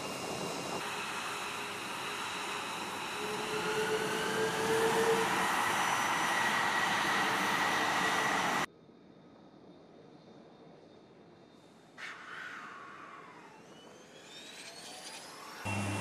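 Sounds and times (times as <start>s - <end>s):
jet engine hiss and whine: 0.0s - 8.7s, 11.7s - 16.0s.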